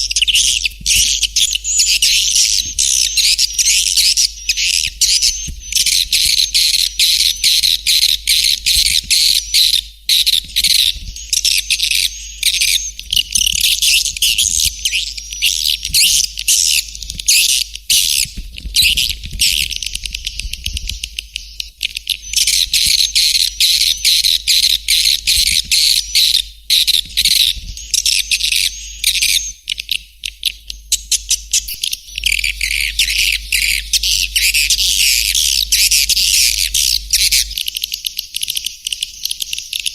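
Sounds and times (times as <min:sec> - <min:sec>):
steady low hum: 0:00.0 - 0:39.9
swiftlets chirping and twittering: 0:00.0 - 0:39.9.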